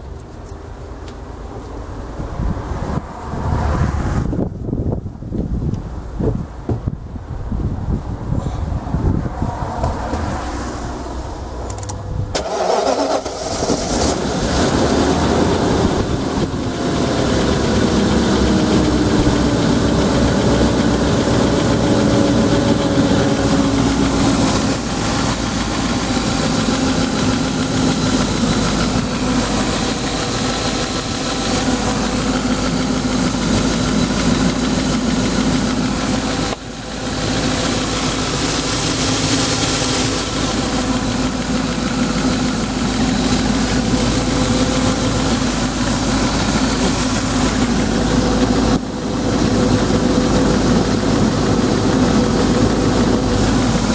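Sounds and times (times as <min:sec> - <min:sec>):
car engine idling: 0:00.0 - 0:53.9
car engine starting: 0:08.2 - 0:53.9.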